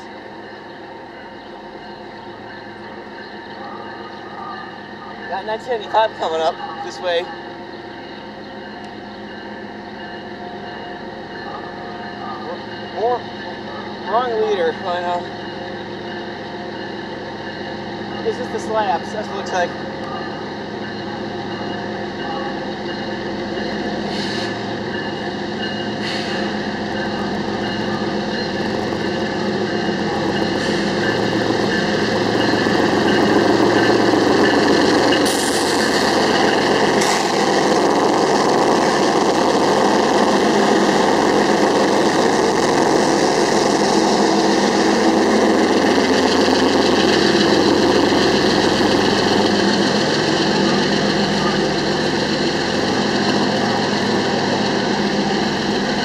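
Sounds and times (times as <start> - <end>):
diesel locomotives passing: 0.0 - 56.0.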